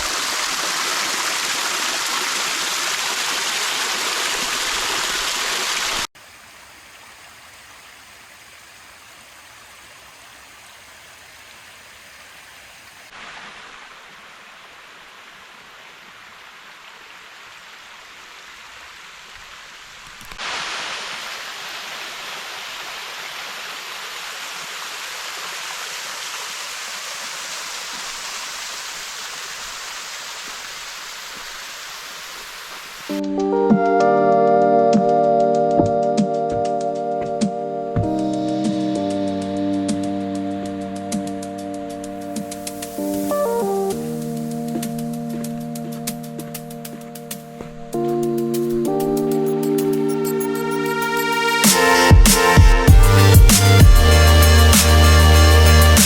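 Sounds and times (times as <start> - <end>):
rushing creek water: 0.0 - 33.2, 35.7 - 56.0.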